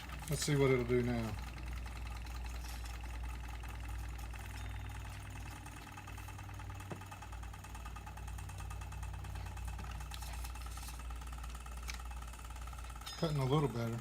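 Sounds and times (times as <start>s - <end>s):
buffing wheel motor humming: 0.0s - 14.0s.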